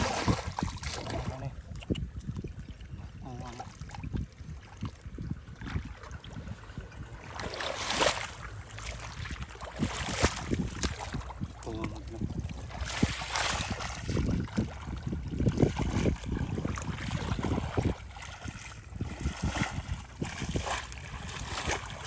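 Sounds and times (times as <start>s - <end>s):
splashing in shallow muddy water: 0.0s - 22.0s.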